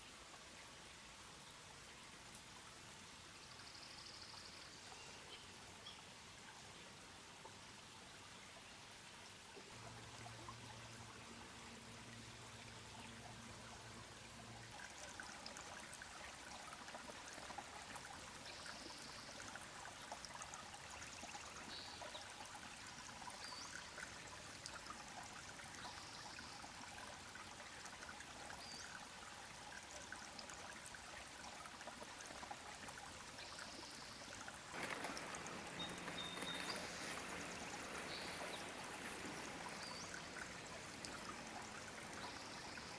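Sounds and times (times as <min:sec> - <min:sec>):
creek water trickling: 0:00.0 - 0:42.9.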